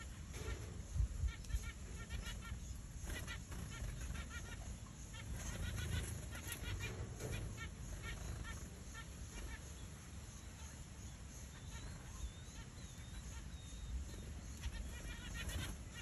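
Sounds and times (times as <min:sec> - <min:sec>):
quail chicks peeping: 0:00.0 - 0:16.0.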